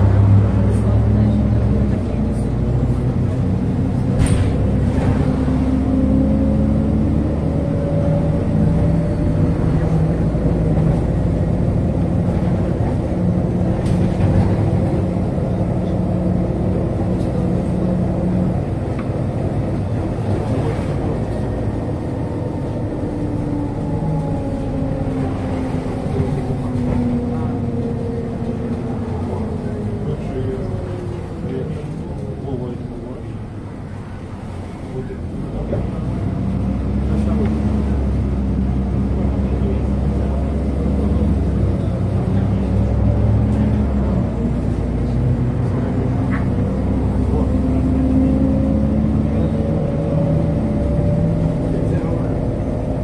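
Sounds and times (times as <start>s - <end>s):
bus engine rumble and whine: 0.0s - 53.0s.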